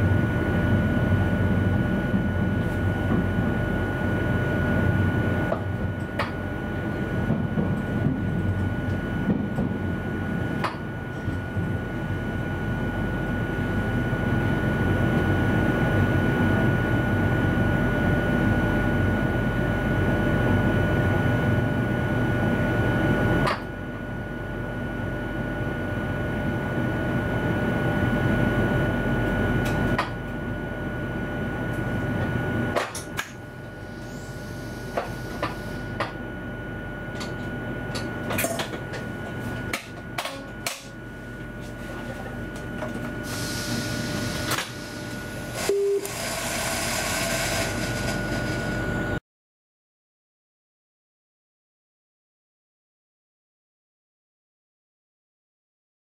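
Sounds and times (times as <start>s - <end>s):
train running noise with high tone: 0.0s - 49.2s.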